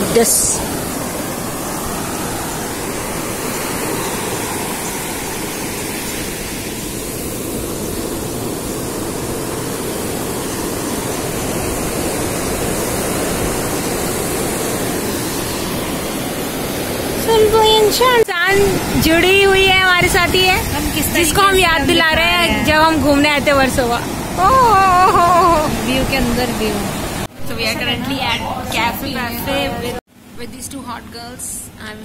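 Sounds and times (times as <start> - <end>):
sea surf: 0.0 - 30.4
wind: 0.0 - 32.0.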